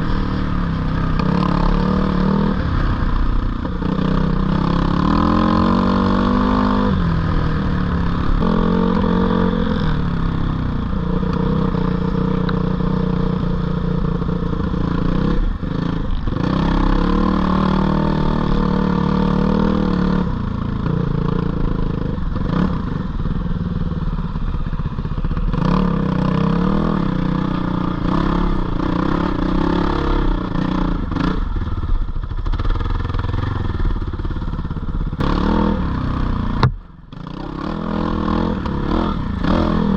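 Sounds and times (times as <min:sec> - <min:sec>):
dirt bike engine revving: 0:00.0 - 0:23.0, 0:25.4 - 0:31.6, 0:35.1 - 0:39.9.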